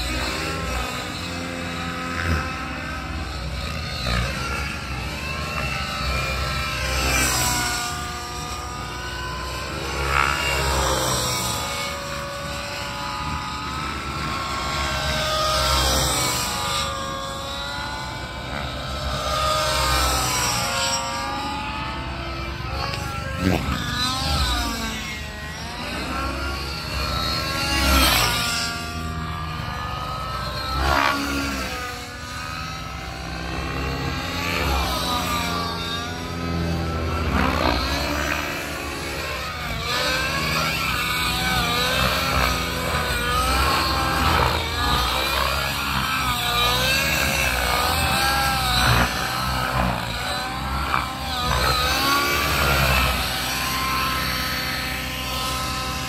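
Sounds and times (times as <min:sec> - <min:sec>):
model helicopter rotor whine: 0:00.0 - 0:56.0.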